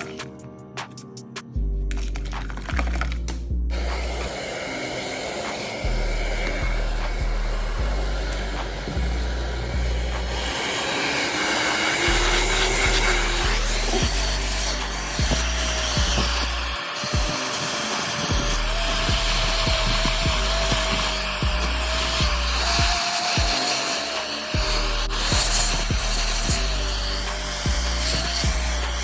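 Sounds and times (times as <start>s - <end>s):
background music with steady beat: 0.0s - 29.0s
electric tool motor whining: 2.2s - 29.0s.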